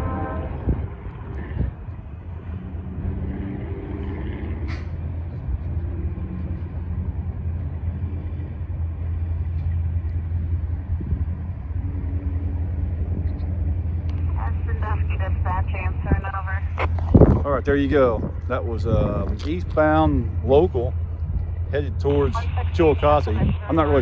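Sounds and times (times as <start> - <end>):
cars driving over tracks: 0.0 - 24.0
freight train rumbling: 0.0 - 24.0.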